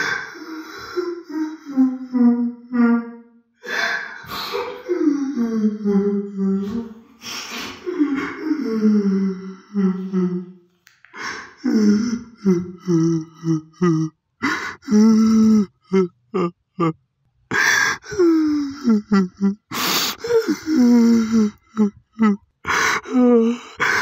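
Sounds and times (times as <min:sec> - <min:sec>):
person moaning and crying: 0:00.0 - 0:07.0, 0:07.7 - 0:10.6, 0:11.2 - 0:24.0.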